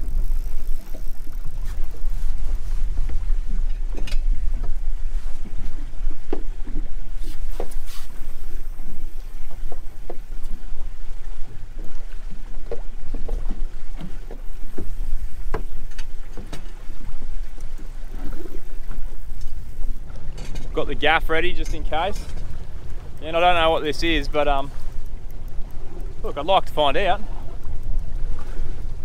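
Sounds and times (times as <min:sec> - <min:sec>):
boat engine low rumble: 0:00.0 - 0:29.0.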